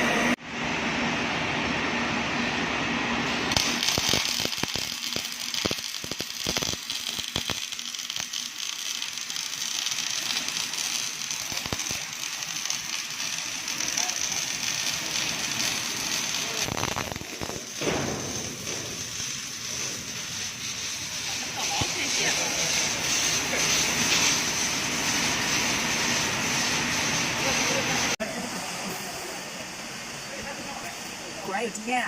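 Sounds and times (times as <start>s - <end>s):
welding arc hissing and crackling: 3.2s - 32.0s.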